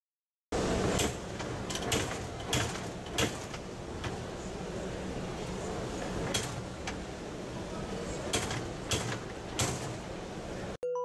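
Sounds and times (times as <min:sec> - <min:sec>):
steady background noise: 0:00.6 - 0:10.8.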